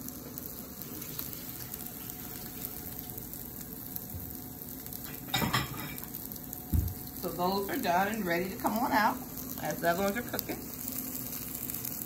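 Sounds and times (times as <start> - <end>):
faint steady hum: 0.0 - 12.0
food sizzling in oil: 0.0 - 12.0.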